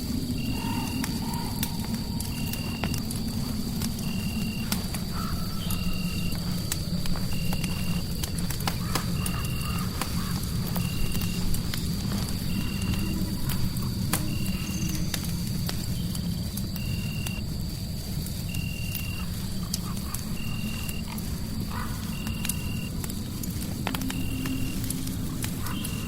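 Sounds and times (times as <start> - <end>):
fireplace crackling and popping: 0.0 - 26.0.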